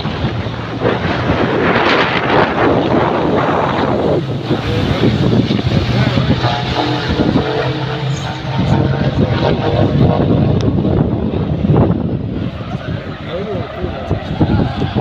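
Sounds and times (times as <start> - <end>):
race truck engines running: 0.0 - 15.0.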